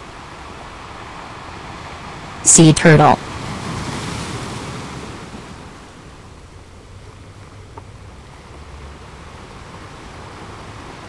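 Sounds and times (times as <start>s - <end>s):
ocean water rushing: 0.0s - 7.0s, 8.2s - 11.0s.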